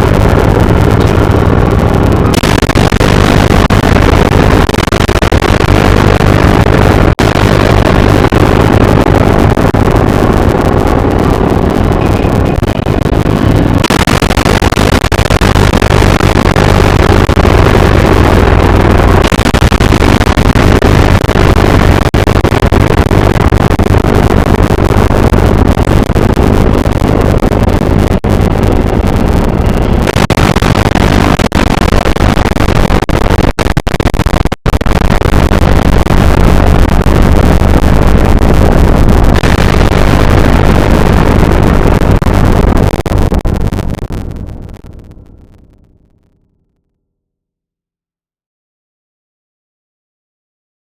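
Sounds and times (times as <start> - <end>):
loud rushing roar: 0.0 - 45.9.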